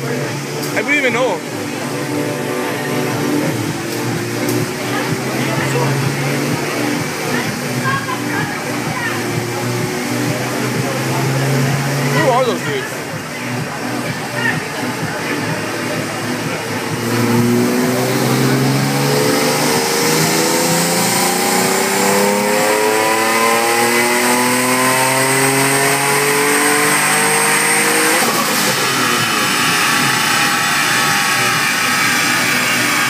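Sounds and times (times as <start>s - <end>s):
car engine revving at full throttle: 0.0s - 33.0s.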